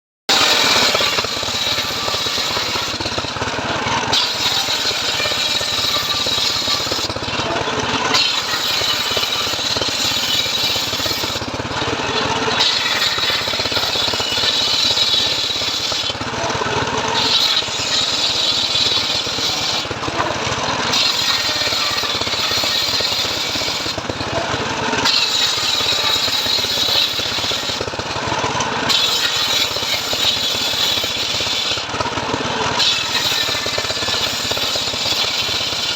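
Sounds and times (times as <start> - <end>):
sawing machine cutting wood: 0.3 - 35.9.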